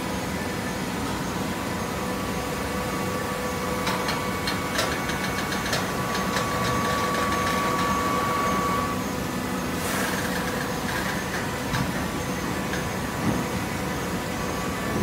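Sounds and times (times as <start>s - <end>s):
baler hydraulic hum and whine: 0.0s - 15.0s.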